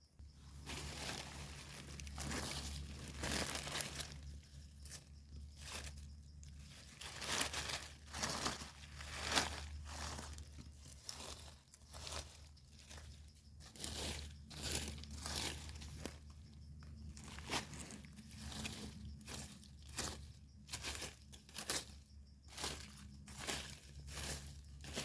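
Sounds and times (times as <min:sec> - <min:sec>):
rustling and crunching leaf litter: 0:00.3 - 0:25.0.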